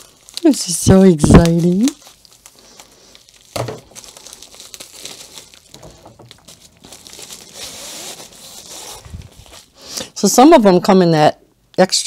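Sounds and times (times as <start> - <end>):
plastic bubble mailer crinkling: 0.0 - 10.4.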